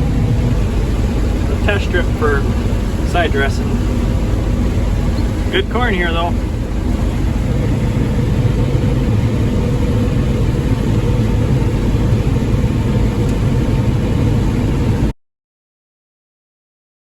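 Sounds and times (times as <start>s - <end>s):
combine harvester rumbling: 0.0s - 15.1s.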